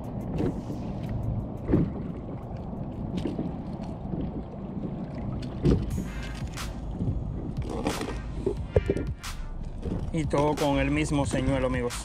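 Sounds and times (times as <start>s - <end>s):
water lapping against kayak hull: 0.0s - 12.0s
wind noise on microphone: 0.0s - 12.0s.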